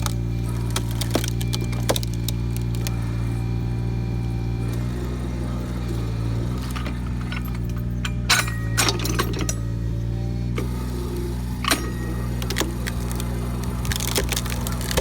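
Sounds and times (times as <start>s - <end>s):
wood cracking and splintering: 0.0s - 9.6s, 10.5s - 15.0s
diesel engine running: 0.0s - 15.0s.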